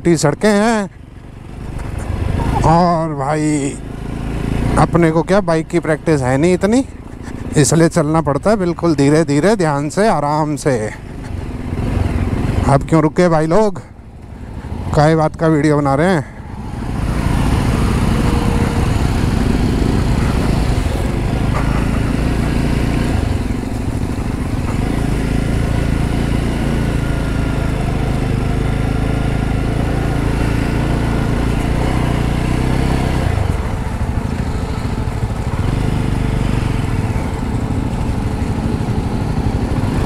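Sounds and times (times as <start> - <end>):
motorcycle engine at low speed: 0.0 - 40.0.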